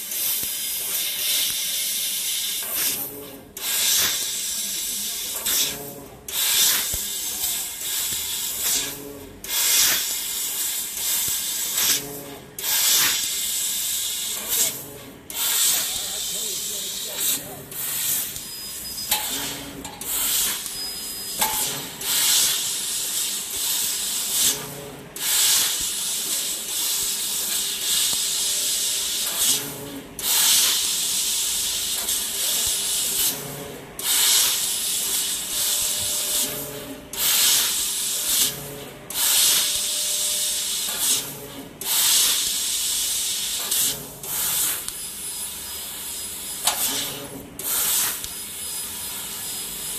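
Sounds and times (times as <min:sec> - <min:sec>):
gas hissing at cutting nozzle: 0:00.0 - 0:49.9.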